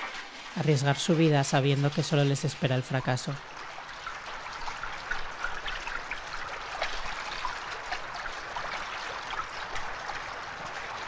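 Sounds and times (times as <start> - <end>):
rain pouring onto flooded floor: 0.0 - 11.0
water splashes and drips: 0.0 - 11.0.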